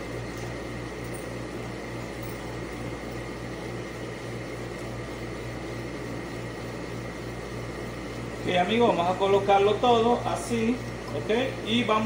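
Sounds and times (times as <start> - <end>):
machine hum with low throb: 0.0 - 12.0.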